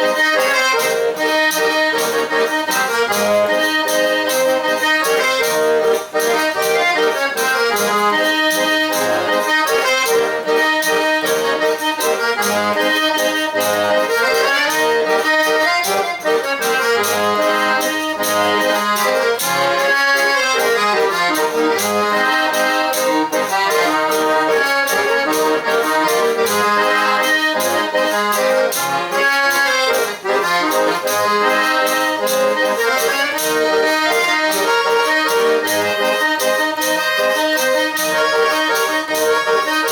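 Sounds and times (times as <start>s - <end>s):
button accordion playing: 0.0s - 39.9s.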